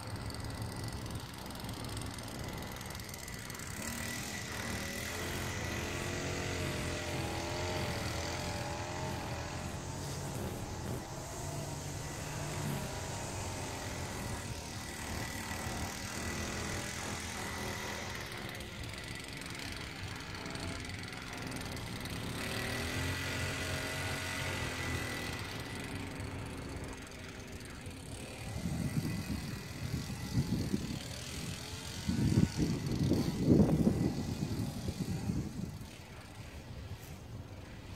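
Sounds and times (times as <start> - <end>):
small gas engine running: 0.0 - 37.9.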